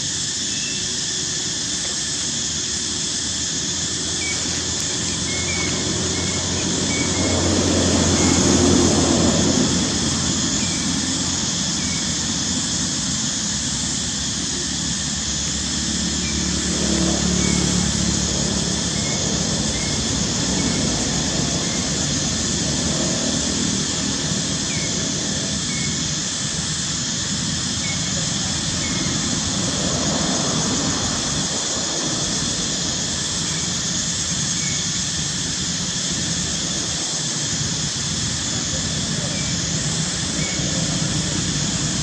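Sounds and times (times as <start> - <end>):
steady rushing noise: 0.0 - 42.0.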